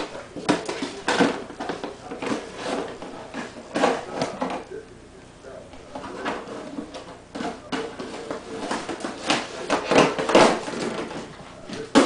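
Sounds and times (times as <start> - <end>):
plastic jug crinkling and clattering: 0.0 - 4.7, 5.9 - 12.0.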